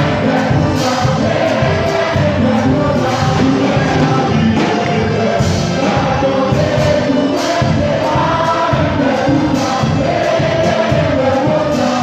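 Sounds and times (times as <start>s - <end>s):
male choir singing: 0.0s - 12.0s.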